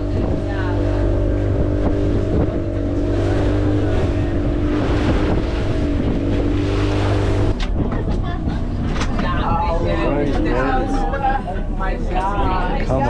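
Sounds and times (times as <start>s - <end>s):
motorboat engine running: 0.0s - 13.0s
water noise: 0.0s - 13.0s
wind buffeting microphone: 0.0s - 13.0s.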